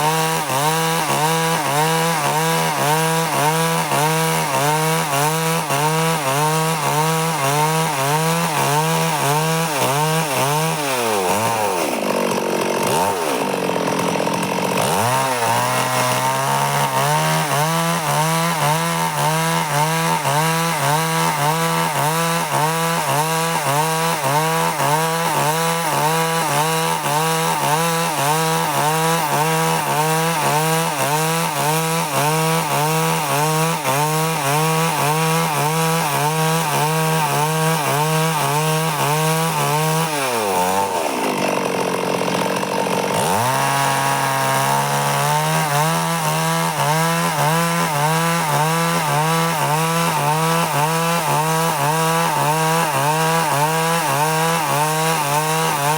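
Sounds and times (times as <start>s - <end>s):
chainsaw ripping a log: 0.0s - 55.9s.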